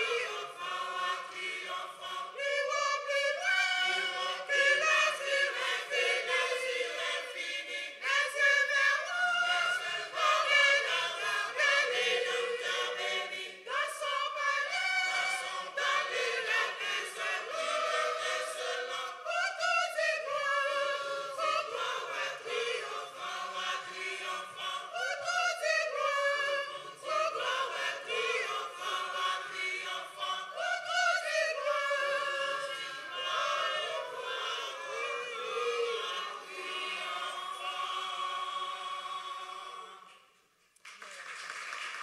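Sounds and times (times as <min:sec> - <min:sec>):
choir singing a hymn: 0:00.0 - 0:40.3.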